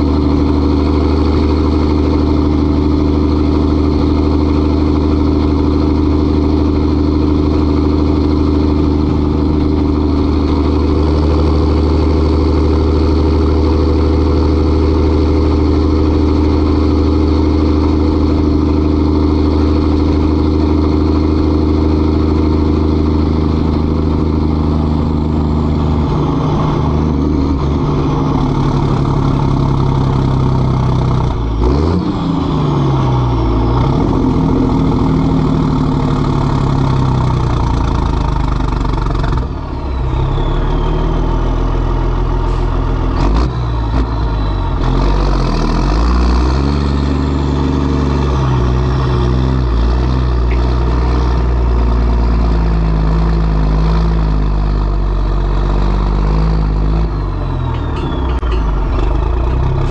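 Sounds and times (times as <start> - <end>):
diesel truck engine running loud: 0.0 - 59.9.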